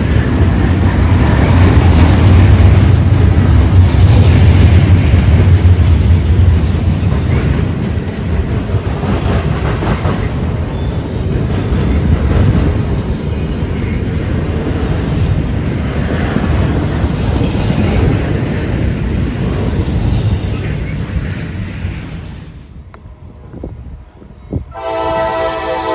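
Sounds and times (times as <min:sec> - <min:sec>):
freight train rumbling on rails: 0:00.0 - 0:25.9.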